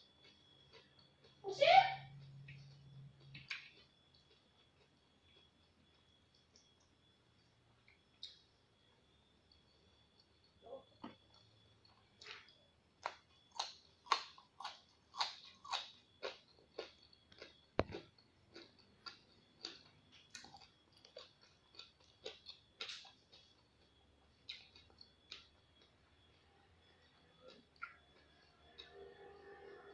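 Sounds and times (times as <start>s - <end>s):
person chewing crunchy vegetables: 0.0s - 1.4s, 2.2s - 7.2s, 7.8s - 29.9s.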